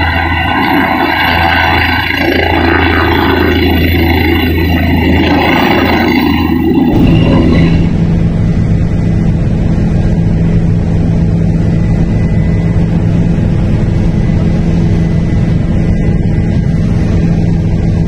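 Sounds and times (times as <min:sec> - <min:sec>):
steady engine drone: 0:00.0 - 0:18.0.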